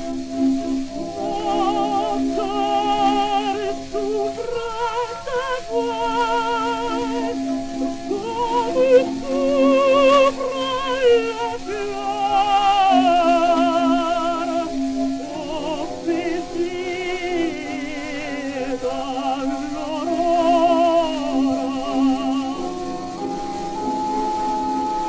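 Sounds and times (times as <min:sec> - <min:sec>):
accompaniment: 0:00.0 - 0:25.0
gramophone surface hiss: 0:00.0 - 0:25.0
woman singing operatic aria: 0:00.1 - 0:25.0.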